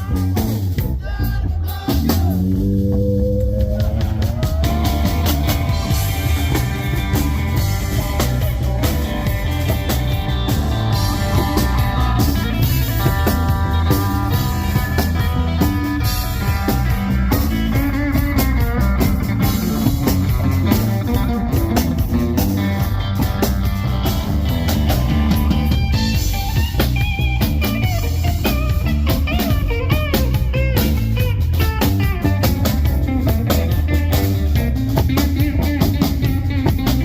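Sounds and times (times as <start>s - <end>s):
blues-rock band playing: 0.0s - 37.0s.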